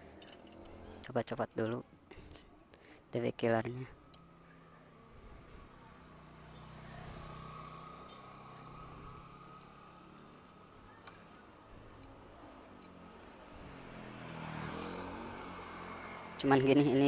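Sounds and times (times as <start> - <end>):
faint engine hum: 1.8 - 17.0.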